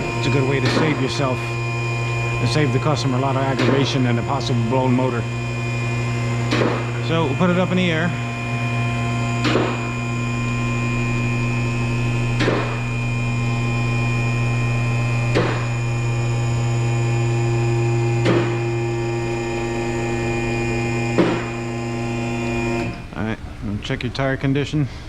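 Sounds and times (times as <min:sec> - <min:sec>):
hydraulic pump motor humming: 0:00.0 - 0:25.0.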